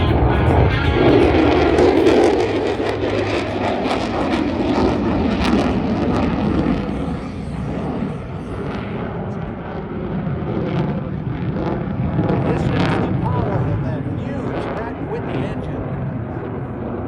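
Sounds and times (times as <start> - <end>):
fighter jet rumble: 0.0 - 17.0.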